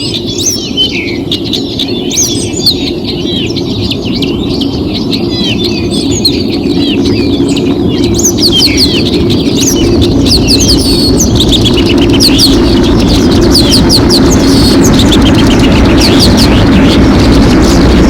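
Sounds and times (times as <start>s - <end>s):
songbirds chirping and singing: 0.0s - 18.0s
low rumble: 1.8s - 18.0s.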